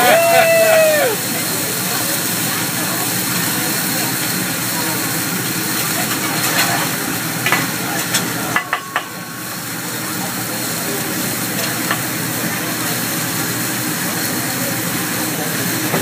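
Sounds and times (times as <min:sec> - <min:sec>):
food sizzling on a hot griddle: 0:00.0 - 0:16.0.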